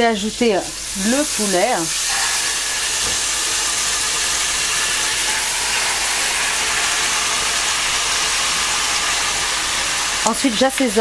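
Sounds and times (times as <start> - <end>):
chicken sizzling in butter: 0.4 - 11.0.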